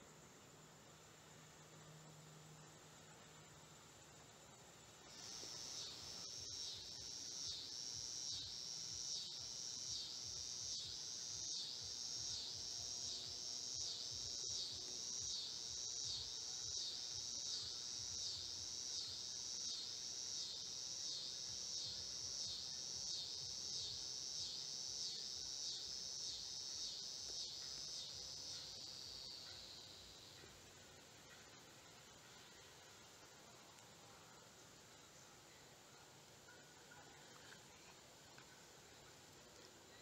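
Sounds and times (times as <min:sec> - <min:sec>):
insects chirping in pulses: 0:00.0 - 0:40.0.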